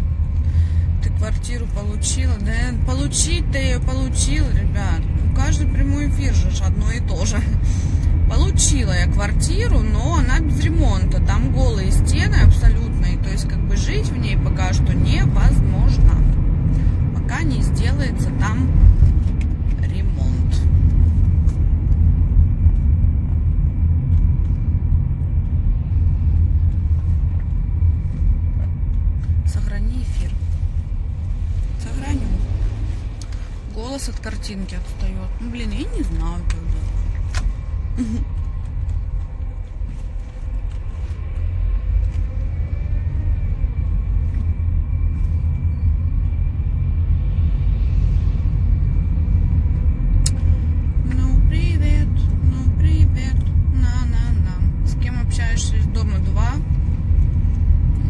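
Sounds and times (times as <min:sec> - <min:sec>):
car cabin rumble: 0:00.0 - 0:47.3.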